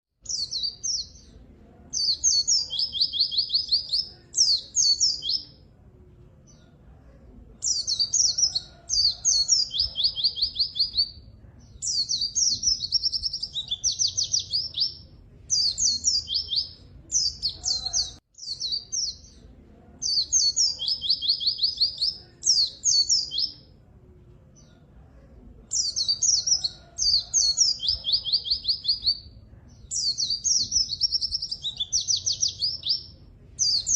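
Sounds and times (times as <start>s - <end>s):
bird chirping and trilling: 0.2s - 5.6s, 7.6s - 19.4s, 20.0s - 23.7s, 25.7s - 33.9s.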